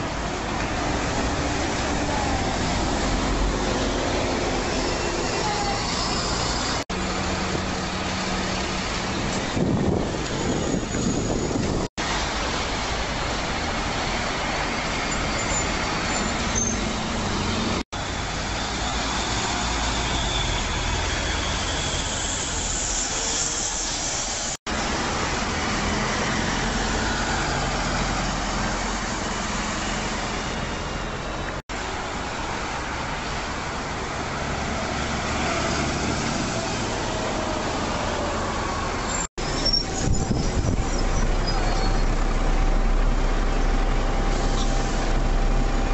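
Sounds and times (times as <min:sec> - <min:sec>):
buses passing: 0:00.0 - 0:45.9
busy road traffic: 0:00.0 - 0:45.9.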